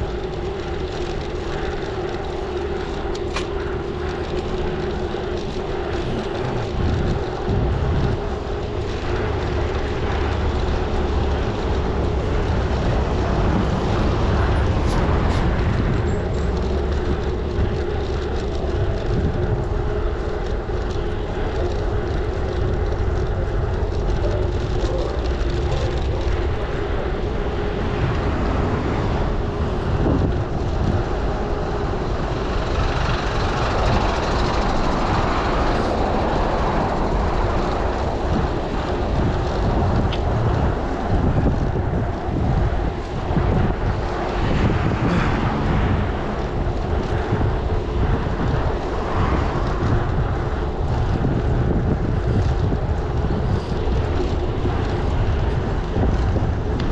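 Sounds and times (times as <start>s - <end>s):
constant low hum: 0.0s - 56.9s
road rumble: 0.0s - 56.9s
wind rushing over microphone: 0.0s - 56.9s.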